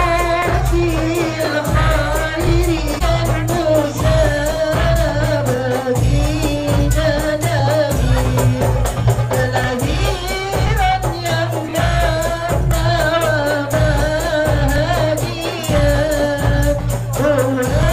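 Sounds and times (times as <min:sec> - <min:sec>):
sung melody over a beat: 0:00.0 - 0:17.9.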